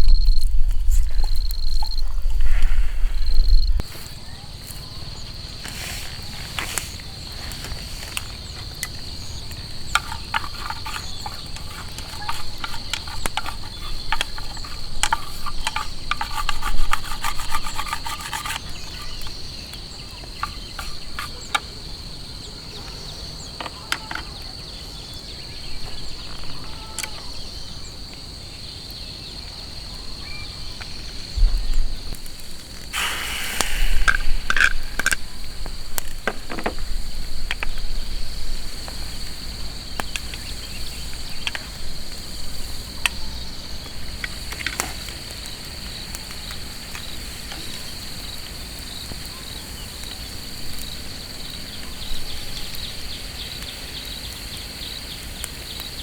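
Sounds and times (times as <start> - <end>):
insect trilling: 0.0 - 56.0.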